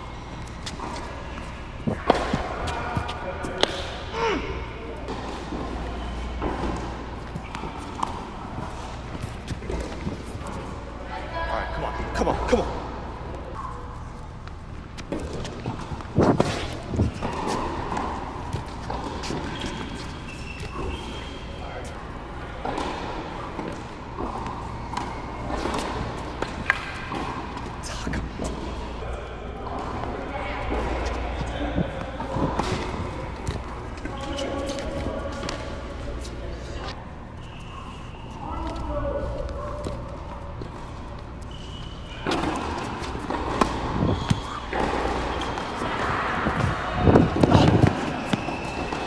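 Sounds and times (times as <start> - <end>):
low muffled murmur: 0.0 - 49.0
players scuffing on court: 0.2 - 3.9, 5.0 - 10.9, 13.5 - 29.1, 29.8 - 49.0.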